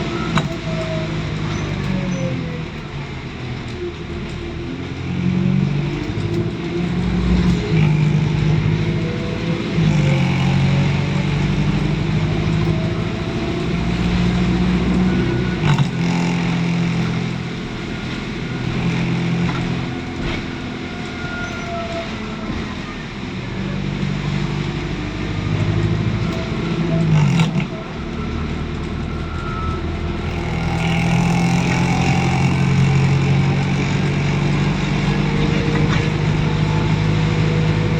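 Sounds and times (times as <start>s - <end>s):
bus diesel engine with whine: 0.0s - 37.9s.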